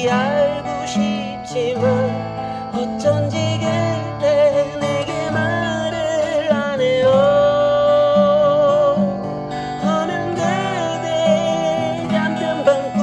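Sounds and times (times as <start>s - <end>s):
acoustic guitar strumming: 0.0s - 13.0s
person singing long notes: 0.0s - 13.0s.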